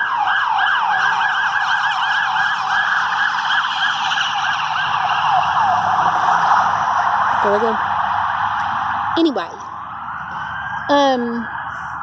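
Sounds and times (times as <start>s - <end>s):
electronic siren yelping: 0.0s - 12.0s.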